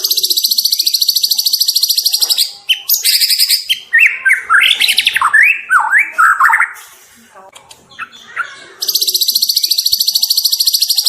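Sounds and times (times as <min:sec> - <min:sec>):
bird singing trills and whistles: 0:00.0 - 0:06.8, 0:07.9 - 0:11.0.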